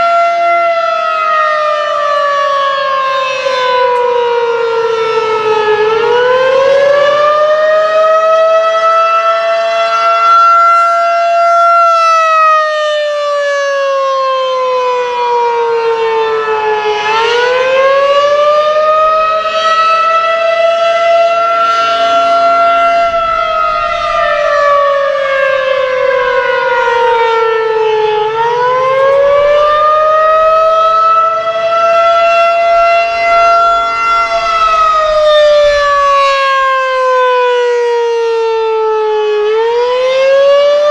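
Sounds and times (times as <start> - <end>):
warning siren wailing: 0.0 - 40.9.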